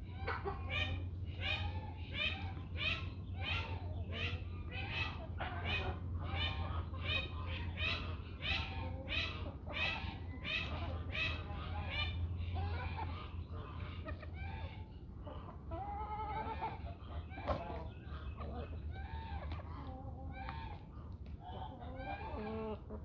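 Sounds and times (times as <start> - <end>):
chickens and turkeys calling: 0.0 - 23.0
low steady hum: 0.0 - 23.0.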